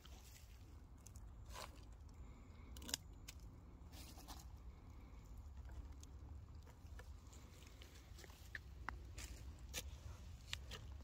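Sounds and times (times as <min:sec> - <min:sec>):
mushrooms snapping: 0:00.0 - 0:04.6, 0:05.5 - 0:11.0.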